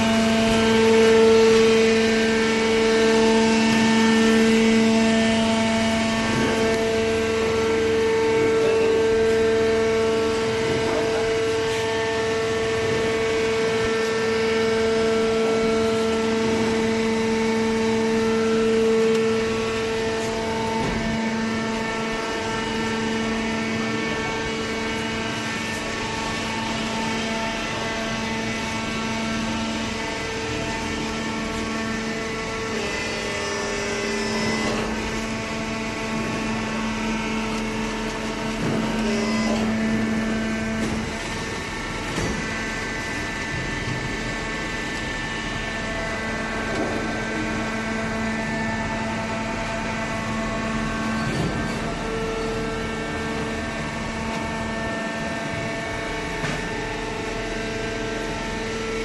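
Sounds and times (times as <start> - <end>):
hydraulic pump motor humming: 0.0 - 59.0.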